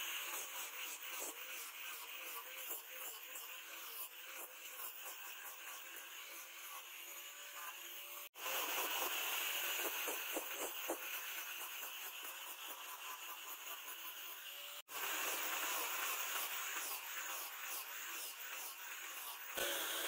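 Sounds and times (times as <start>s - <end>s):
power sander hissing on wood: 0.0s - 20.0s.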